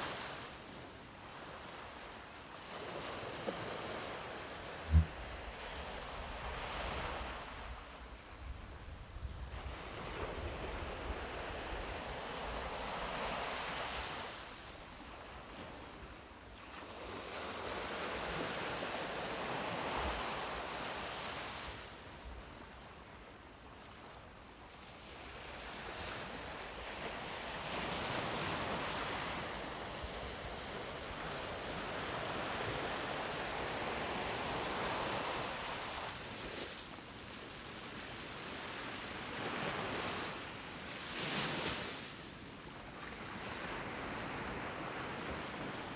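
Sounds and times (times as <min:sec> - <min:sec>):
sea surf on sandy shore: 0:00.0 - 0:45.9.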